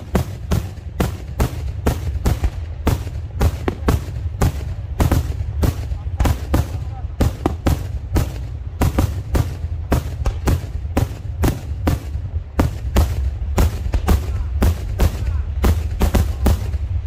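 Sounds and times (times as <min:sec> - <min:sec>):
fireworks bursts: 0:00.0 - 0:17.0
steady low rumble: 0:00.0 - 0:17.0.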